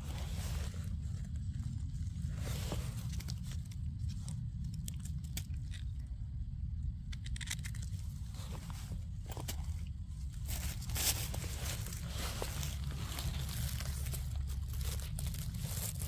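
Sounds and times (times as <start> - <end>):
crunching in forest floor litter: 0.0 - 16.0
low rumble on microphone: 0.0 - 16.0.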